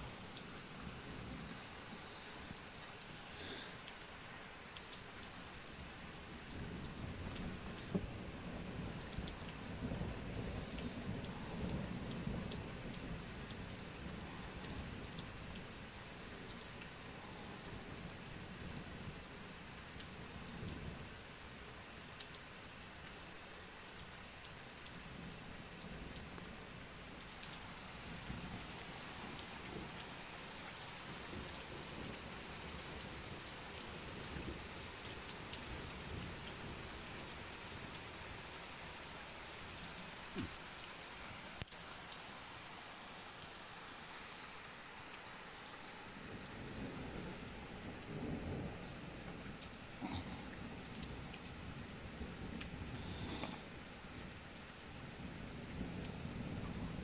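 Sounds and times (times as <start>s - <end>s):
pattering raindrops: 0.0s - 57.0s
steady rain hiss: 0.0s - 57.0s.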